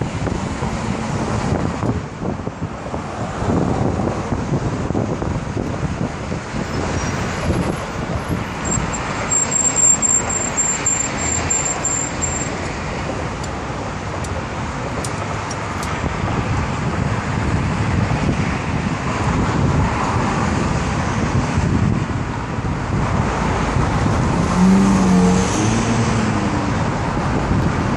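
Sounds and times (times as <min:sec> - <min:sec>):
traffic driving past: 0:00.0 - 0:27.9.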